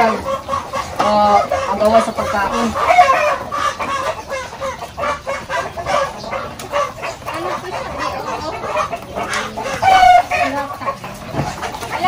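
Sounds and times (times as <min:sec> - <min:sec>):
roosters clucking and calling: 0:00.0 - 0:12.0.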